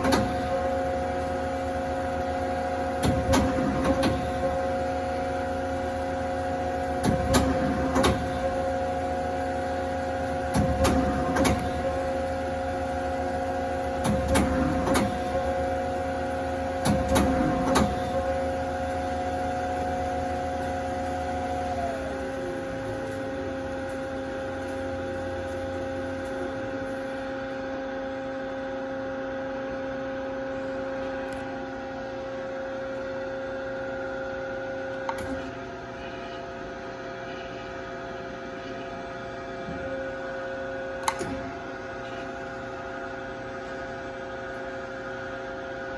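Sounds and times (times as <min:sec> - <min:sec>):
machine humming: 0:00.0 - 0:45.9.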